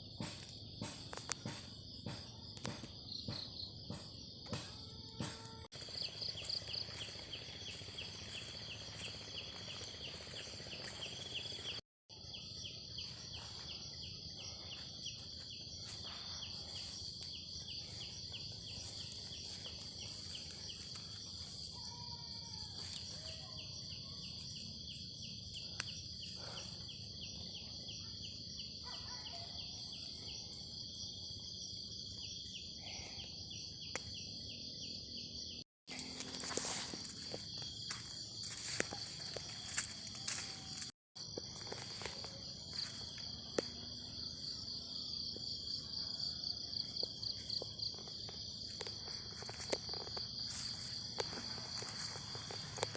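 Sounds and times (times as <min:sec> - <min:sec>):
pulsing insect chirp: 0:00.0 - 0:52.9
insects buzzing: 0:03.0 - 0:29.0, 0:29.6 - 0:52.9.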